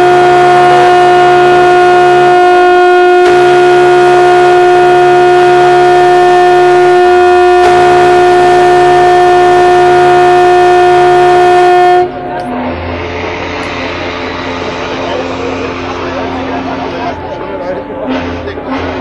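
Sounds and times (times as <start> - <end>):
deeper horn: 0.0 - 19.0
ship horn long blast: 0.0 - 19.0.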